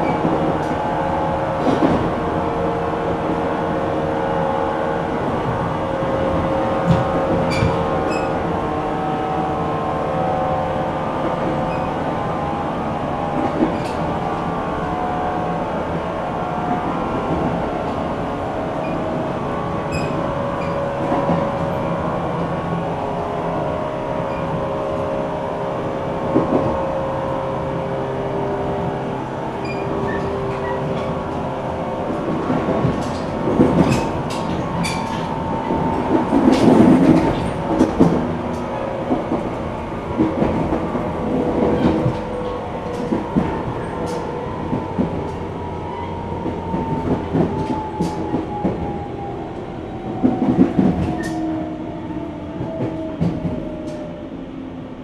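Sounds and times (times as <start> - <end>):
train running noise with hum: 0.0 - 55.0.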